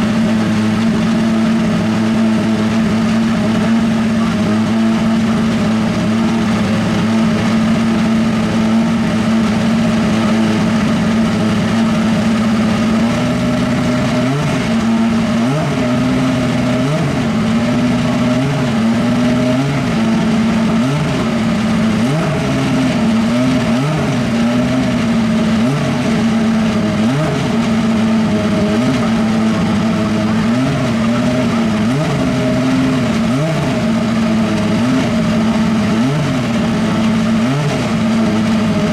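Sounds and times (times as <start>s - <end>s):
engine throttle blips: 0.0s - 38.9s
race car engine fast idle: 0.0s - 38.9s.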